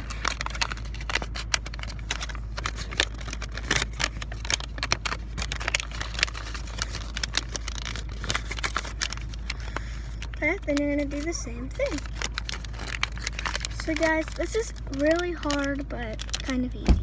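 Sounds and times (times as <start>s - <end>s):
paper crinkling and folding: 0.0s - 17.0s
steady low hum: 0.0s - 17.0s.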